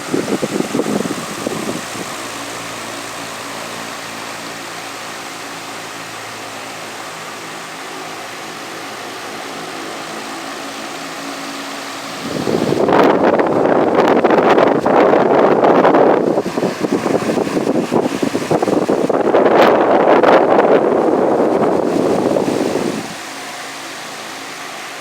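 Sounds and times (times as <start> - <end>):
airflow buffeting microphone: 0.0 - 25.0
wall fan running: 0.0 - 25.0.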